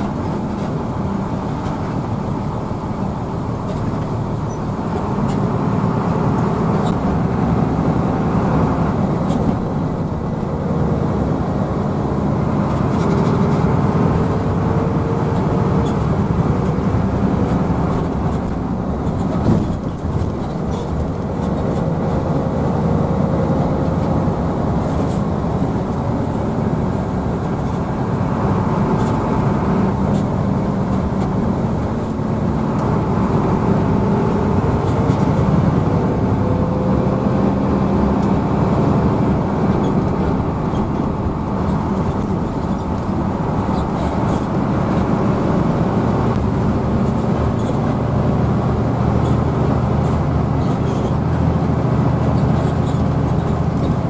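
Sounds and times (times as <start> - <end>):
bus diesel engine droning: 0.0 - 54.0.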